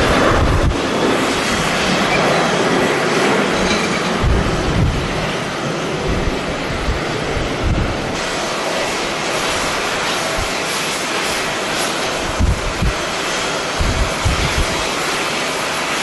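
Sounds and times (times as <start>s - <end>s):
wind buffeting microphone: 0.0s - 15.4s
jet engines roaring: 0.0s - 16.0s.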